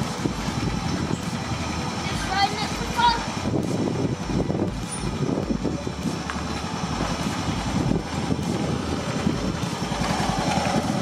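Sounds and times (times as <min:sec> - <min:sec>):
riding lawn mower engine running: 0:00.0 - 0:11.0.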